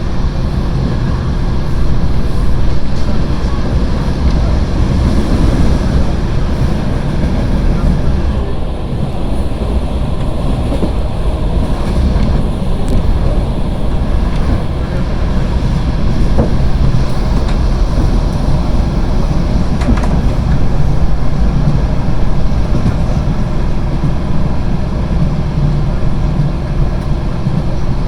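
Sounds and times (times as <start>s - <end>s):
rushing air noise: 0.0s - 24.7s
train wheels rumbling on rail: 0.0s - 28.0s.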